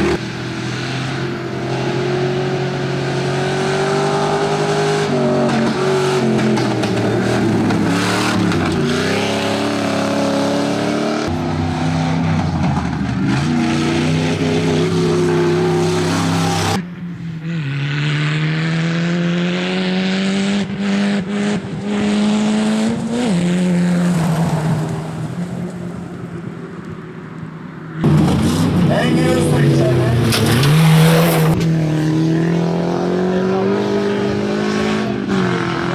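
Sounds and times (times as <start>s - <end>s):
race vehicle engines at full throttle: 0.0s - 35.9s.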